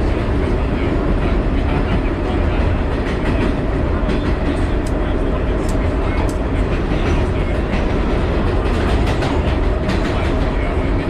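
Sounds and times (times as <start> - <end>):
subway wheels rumbling on rails: 0.0 - 11.0.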